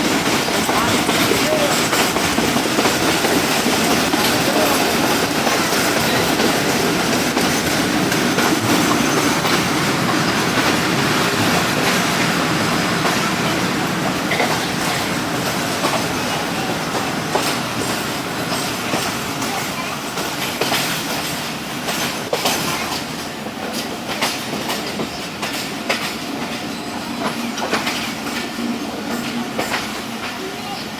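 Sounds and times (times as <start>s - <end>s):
train wheels rumbling and rattling: 0.0s - 30.9s.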